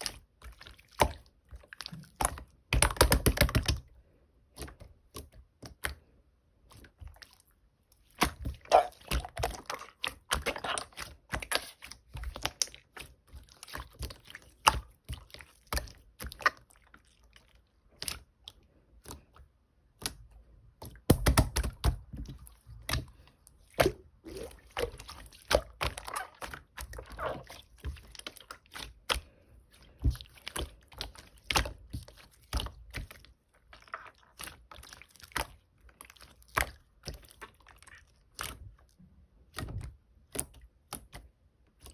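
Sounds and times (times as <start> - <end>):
slime squelching by hand: 0.0 - 41.9.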